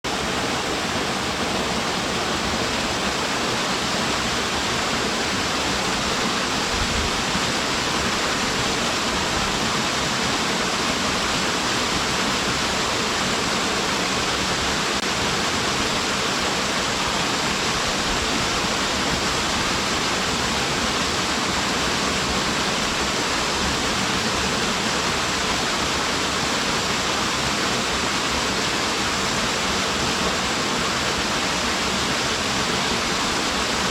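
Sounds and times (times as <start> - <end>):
waterfall pouring into pool: 0.1 - 33.9.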